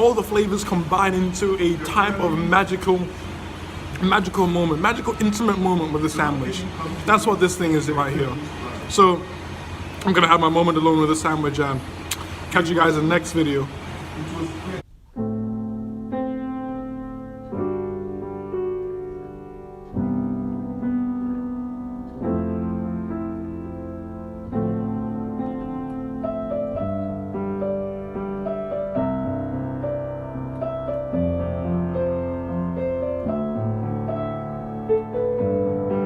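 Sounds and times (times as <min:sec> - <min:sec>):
solo piano playing slow chords: 0:00.0 - 0:36.0.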